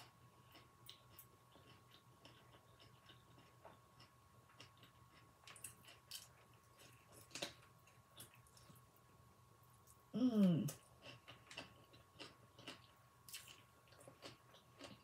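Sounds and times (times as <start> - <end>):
faint chewing and mouth clicks: 0.0 - 15.0.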